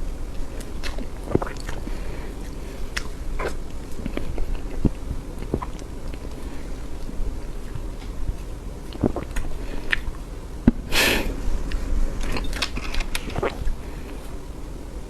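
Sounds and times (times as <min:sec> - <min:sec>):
wet chewing: 0:00.0 - 0:10.8, 0:11.6 - 0:14.5
mouth clicks and smacks: 0:00.0 - 0:14.4.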